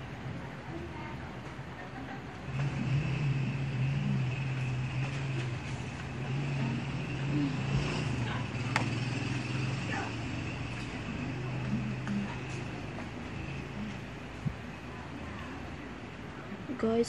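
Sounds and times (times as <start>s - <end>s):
background noise: 0.0s - 17.0s
steady low hum: 0.0s - 17.0s.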